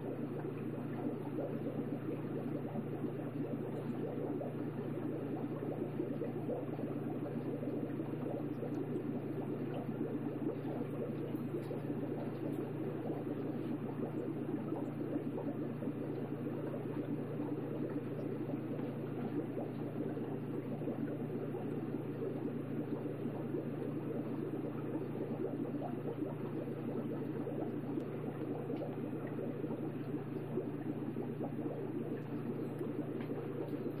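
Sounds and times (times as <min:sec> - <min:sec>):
fish tank water bubbling: 0:00.0 - 0:34.0
low steady hum: 0:00.0 - 0:34.0.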